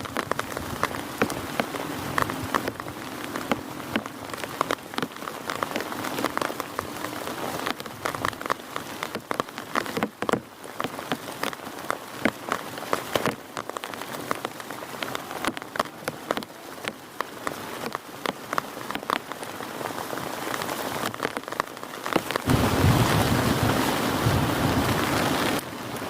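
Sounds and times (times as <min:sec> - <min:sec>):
hiss of rainfall: 0:00.0 - 0:26.0
large raindrops striking close: 0:00.0 - 0:26.0.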